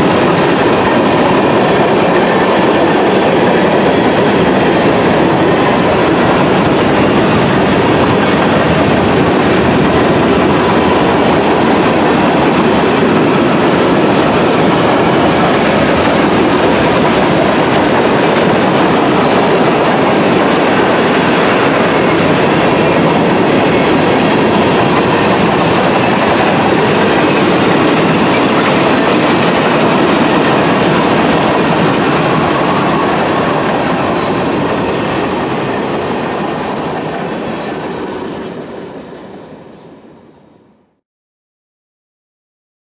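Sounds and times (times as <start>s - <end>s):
freight train wheels on rails: 0.0s - 40.7s.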